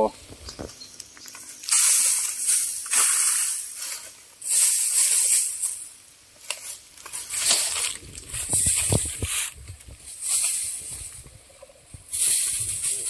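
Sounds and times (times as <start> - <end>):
granules pouring with rattling hiss: 0.0 - 13.0.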